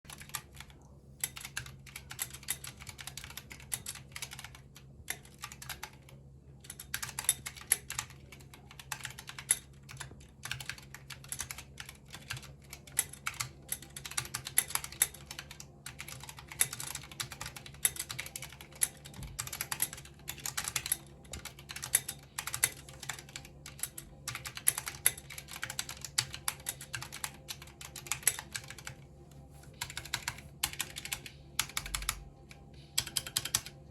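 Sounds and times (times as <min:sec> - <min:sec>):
mechanical keyboard typing: 0:00.1 - 0:29.0, 0:29.7 - 0:33.9
faint steady hum: 0:00.1 - 0:33.9.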